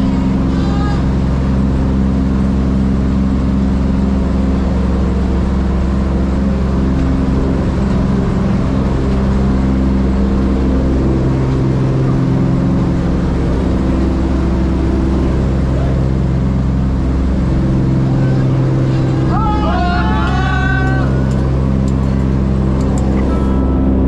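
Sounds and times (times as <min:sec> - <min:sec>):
piston engines droning: 0:00.0 - 0:24.0.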